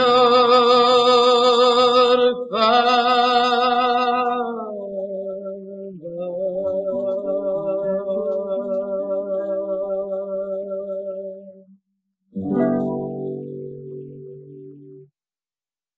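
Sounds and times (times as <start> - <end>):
acoustic guitar: 0.0 - 11.6, 12.4 - 15.1.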